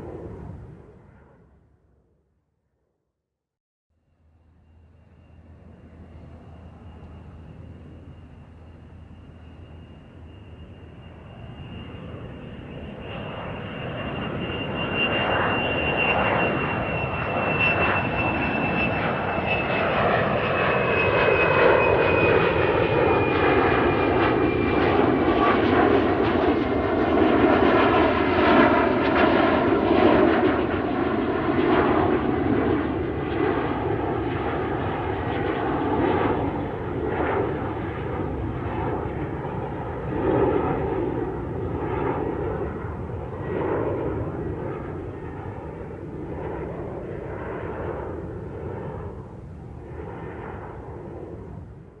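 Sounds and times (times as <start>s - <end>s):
airplane flying over: 0.0s - 2.9s, 4.0s - 52.0s.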